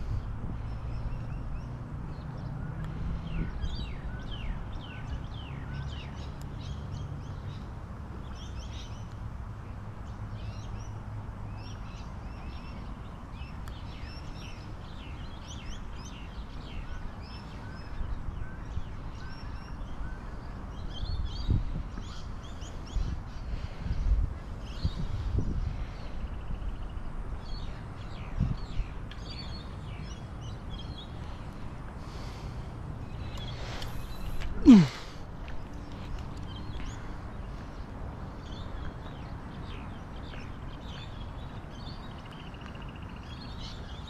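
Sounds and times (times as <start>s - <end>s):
birds chirping: 0.0s - 44.0s
wind rumble on microphone: 0.0s - 44.0s.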